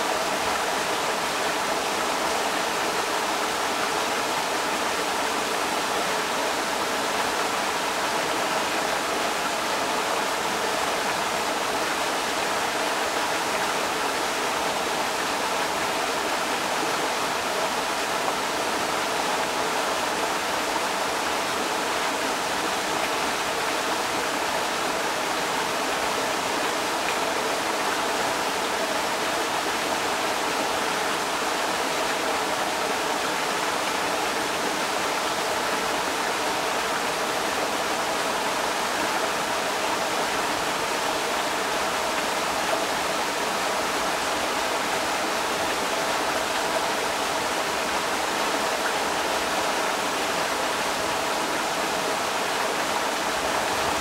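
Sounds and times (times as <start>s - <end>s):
creek water rushing over rocks: 0.0s - 54.0s.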